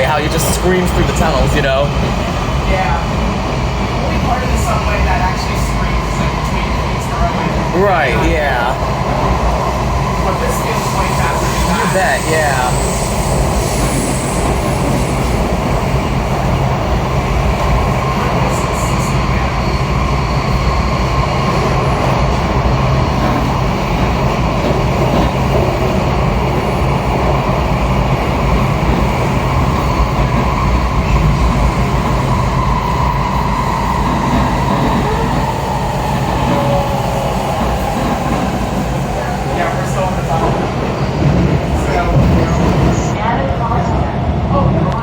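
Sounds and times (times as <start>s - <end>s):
subway wheels rumbling on rails: 0.0s - 45.0s.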